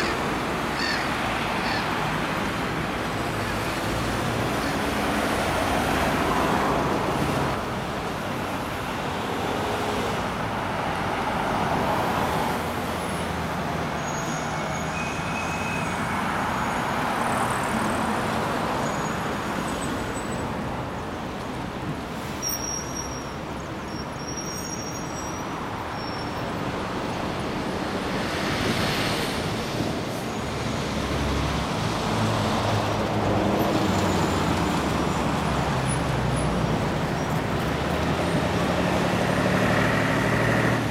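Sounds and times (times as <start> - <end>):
cars passing on street: 0.0 - 40.9.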